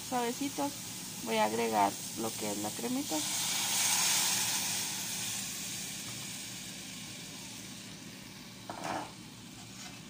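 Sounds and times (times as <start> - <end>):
mushrooms sizzling in a pan: 0.0 - 10.0.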